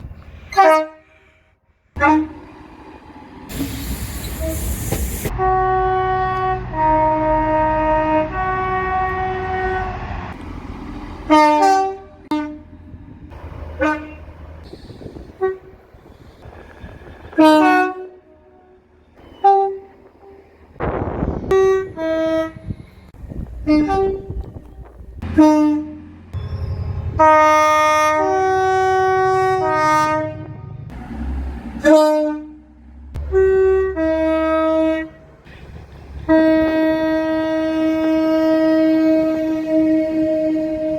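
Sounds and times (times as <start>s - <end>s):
train horn toots: 0.4s - 2.6s, 3.5s - 10.4s, 11.2s - 40.9s.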